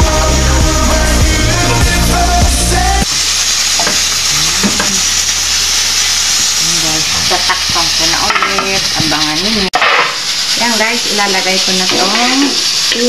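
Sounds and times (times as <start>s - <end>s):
food sizzling on stove: 0.0s - 13.0s.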